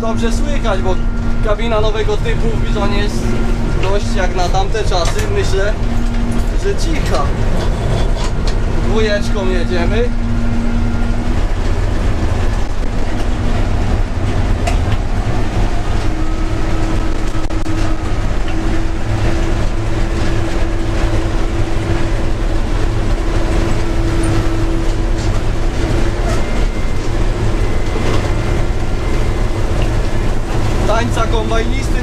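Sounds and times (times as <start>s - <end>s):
combine harvester engine rumble: 0.0s - 32.0s
machinery whine: 0.0s - 32.0s.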